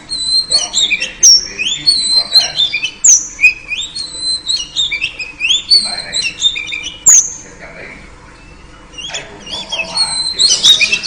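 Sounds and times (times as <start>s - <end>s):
bird singing varied whistles: 0.0s - 7.4s, 8.4s - 11.0s
bird squawks: 0.0s - 11.0s.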